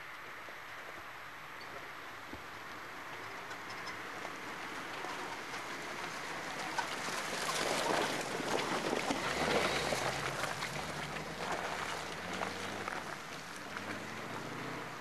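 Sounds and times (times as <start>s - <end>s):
off-road vehicle engine: 0.0s - 15.0s.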